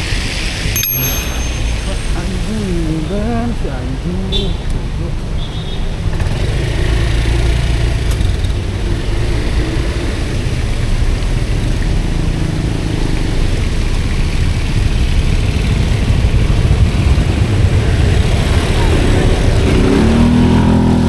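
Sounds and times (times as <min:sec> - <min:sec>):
road noise: 0:00.0 - 0:21.0
rain: 0:02.2 - 0:21.0.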